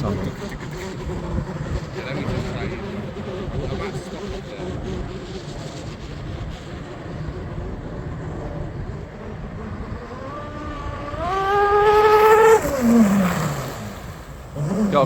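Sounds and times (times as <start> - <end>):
model speedboat motor whining: 0.0 - 15.0.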